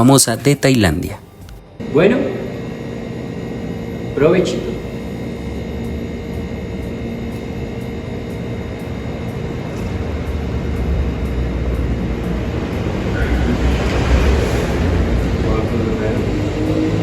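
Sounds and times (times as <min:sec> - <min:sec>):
steady low rumble: 0:01.5 - 0:17.0.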